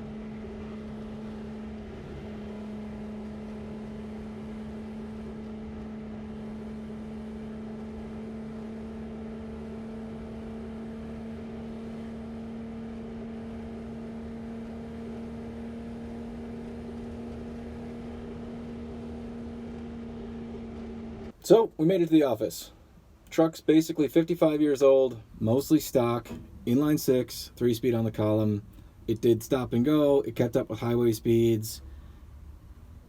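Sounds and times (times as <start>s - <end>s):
engine hum inside cab: 0.0s - 33.0s
low road rumble: 0.0s - 33.0s.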